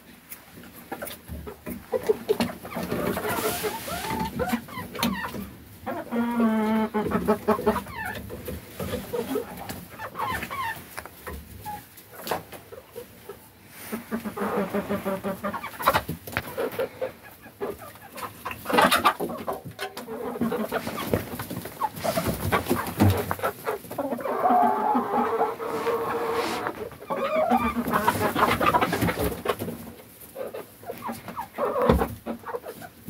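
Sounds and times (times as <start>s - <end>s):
chickens clucking and squawking: 0.0s - 33.0s.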